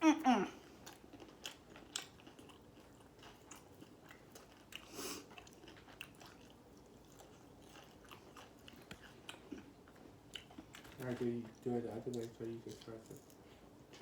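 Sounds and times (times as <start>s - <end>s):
chewing with mouth clicks: 0.6s - 14.0s.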